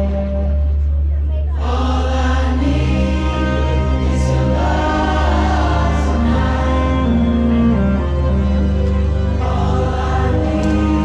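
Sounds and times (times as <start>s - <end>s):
heavy bass: 0.0s - 11.0s
voices singing held notes: 1.6s - 11.0s.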